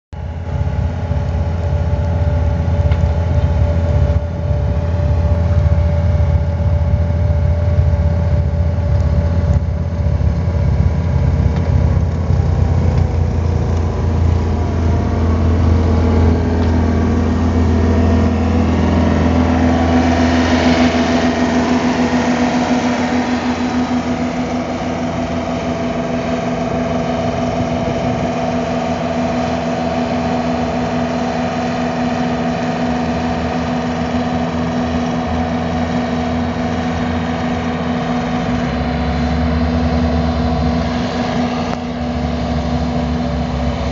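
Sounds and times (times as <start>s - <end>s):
diesel engine running: 0.1s - 43.9s
snowblower whine: 0.2s - 43.9s.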